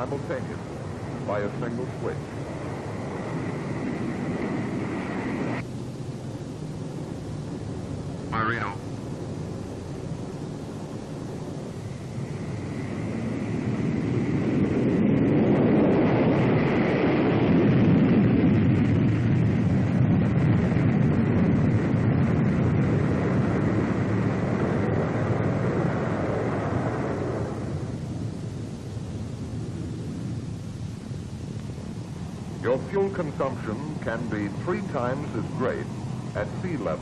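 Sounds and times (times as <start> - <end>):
faint high whine: 0.0 - 37.0
jet aircraft roaring on takeoff: 0.0 - 37.0.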